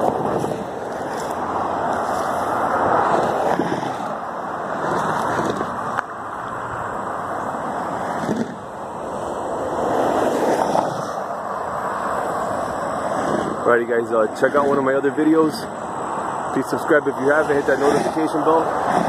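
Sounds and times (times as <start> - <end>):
highway traffic passing: 0.0 - 19.0.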